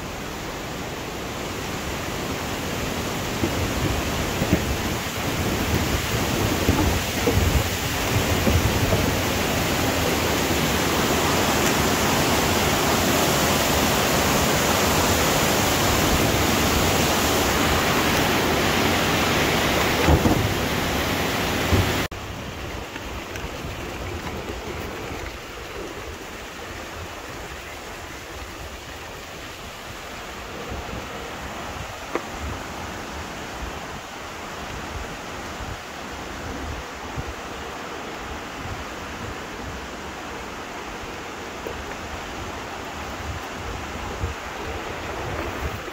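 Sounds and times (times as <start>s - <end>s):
river rapids rushing over rocks: 0.0s - 45.9s.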